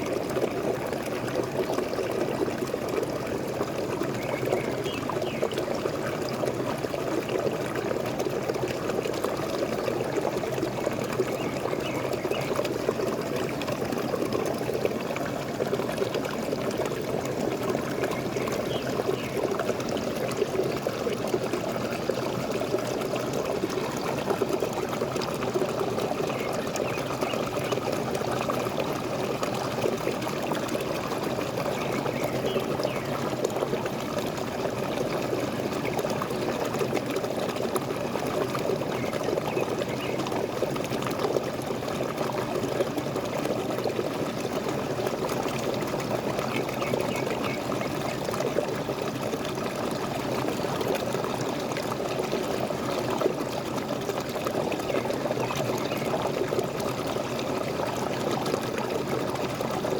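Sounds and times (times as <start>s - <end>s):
waterfall pouring: 0.0s - 59.9s.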